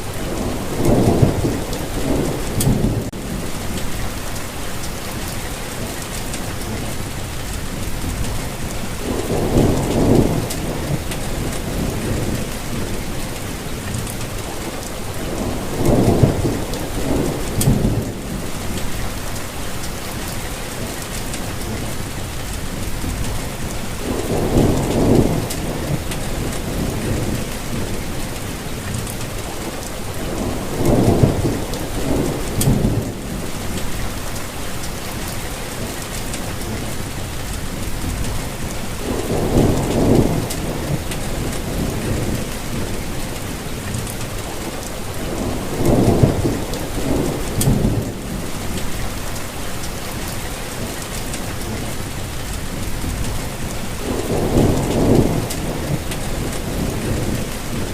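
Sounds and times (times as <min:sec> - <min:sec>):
rain hissing: 0:00.0 - 0:57.9.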